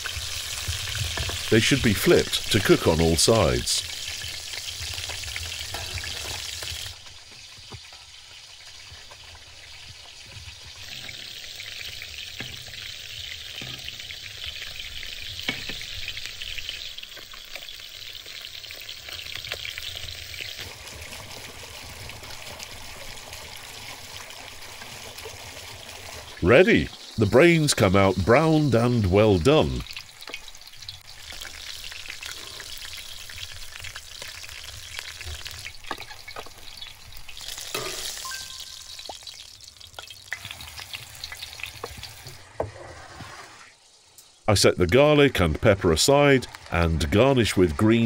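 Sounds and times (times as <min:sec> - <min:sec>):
oil sizzling in pan: 0:00.0 - 0:44.5, 0:45.5 - 0:47.8.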